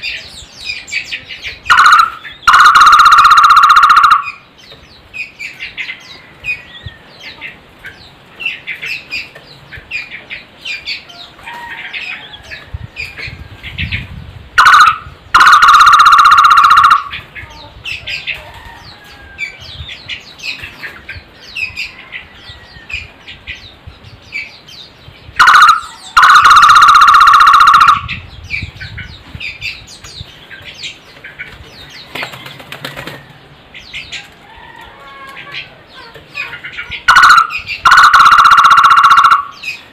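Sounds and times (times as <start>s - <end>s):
small birds chirping: 0.0s - 3.0s, 4.1s - 15.5s, 16.9s - 27.0s, 27.8s - 38.2s.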